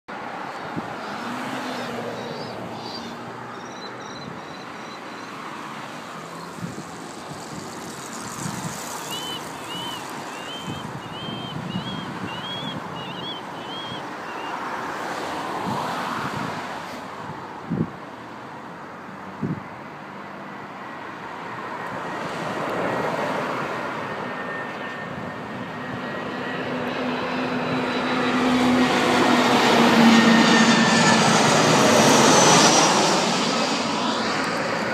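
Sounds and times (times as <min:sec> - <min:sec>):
airplane engines: 0:00.1 - 0:34.9.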